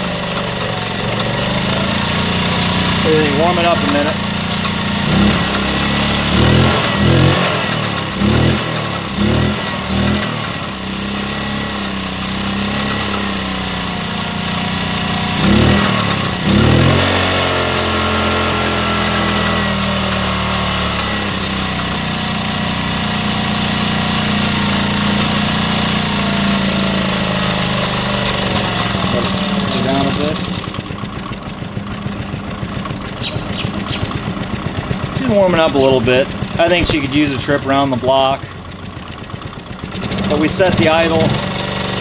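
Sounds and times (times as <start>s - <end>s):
moped engine revving and idling: 0.0s - 42.0s.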